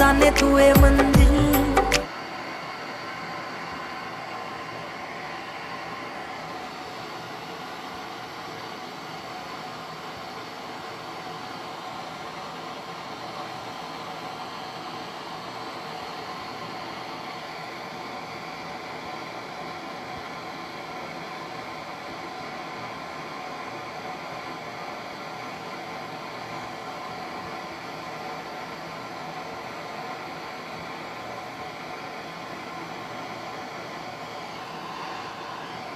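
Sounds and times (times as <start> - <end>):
torch flame hissing: 1.8 - 35.9.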